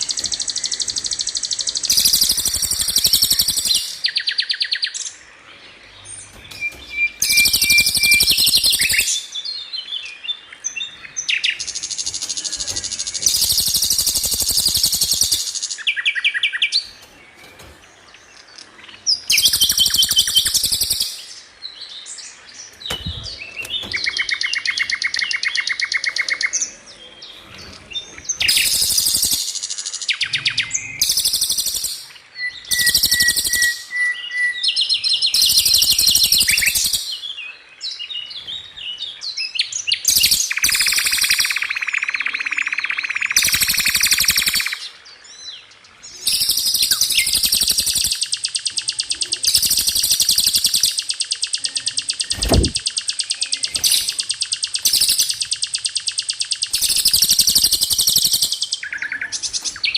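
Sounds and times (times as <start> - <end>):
songbird trilling: 0.0 - 5.2, 5.8 - 26.8, 28.2 - 37.5, 39.4 - 45.5, 46.2 - 59.9.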